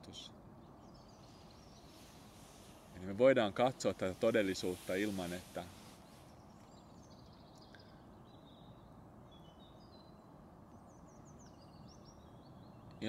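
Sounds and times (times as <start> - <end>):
outdoor background hiss: 0.0 - 13.0
songbirds chirping: 0.0 - 13.0.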